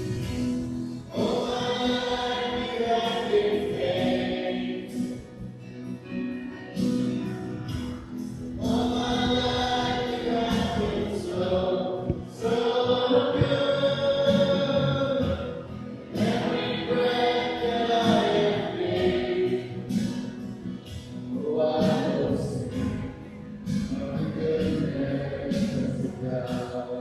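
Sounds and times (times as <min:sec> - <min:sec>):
choir singing gospel song: 0:00.0 - 0:05.7, 0:07.7 - 0:27.0.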